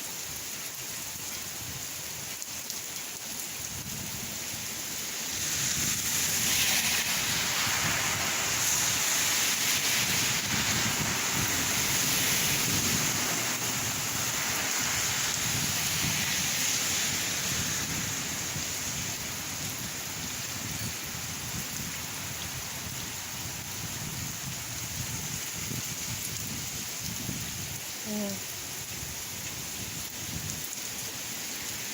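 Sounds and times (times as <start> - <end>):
heavy rain splashing: 0.0 - 31.9.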